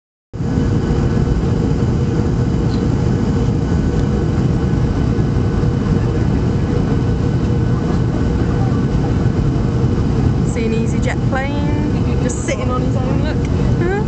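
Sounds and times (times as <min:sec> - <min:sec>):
airliner cabin engine roar: 0:00.4 - 0:14.0.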